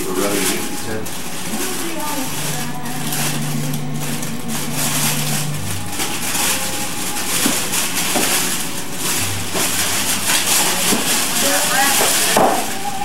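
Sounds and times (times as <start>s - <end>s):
foil wrapping paper crinkling: 0.0s - 13.0s.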